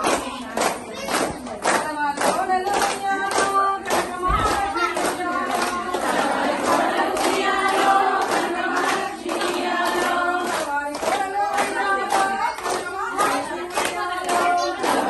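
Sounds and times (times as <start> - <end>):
rhythmic hand clapping: 0.0 - 15.0
women and girls singing: 0.0 - 15.0.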